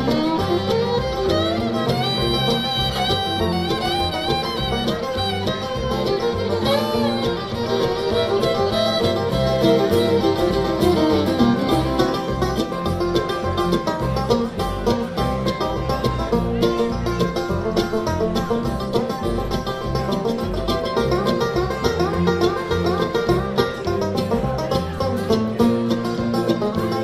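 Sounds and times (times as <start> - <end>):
banjo picking: 0.0 - 27.0
fiddle: 0.0 - 27.0
guitar: 0.0 - 27.0.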